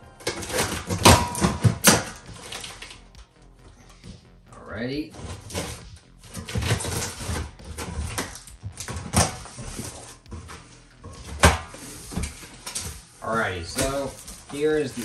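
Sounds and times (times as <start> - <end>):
cardboard and tape rustling: 0.0 - 4.3, 5.1 - 15.0.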